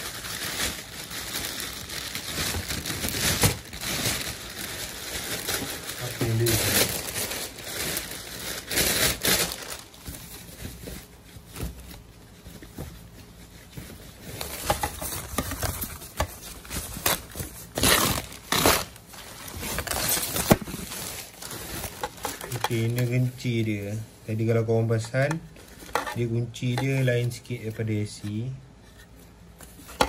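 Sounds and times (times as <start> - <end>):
plastic wrapping crinkling: 0.0 - 30.0.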